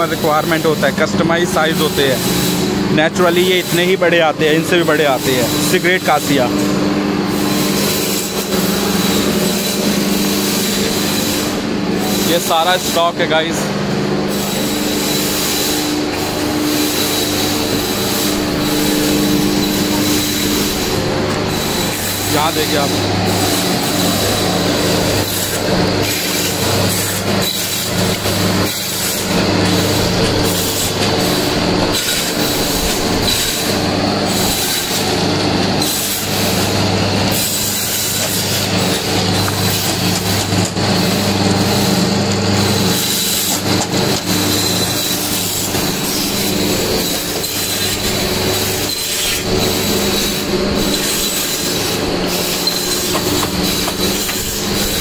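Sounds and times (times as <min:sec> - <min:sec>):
machinery clattering and knocking: 0:00.0 - 0:55.0
machinery humming with high whine: 0:00.0 - 0:55.0.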